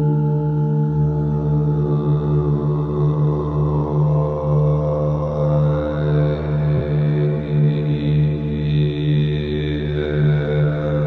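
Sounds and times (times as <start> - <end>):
low chant-like drone music: 0.0 - 11.0.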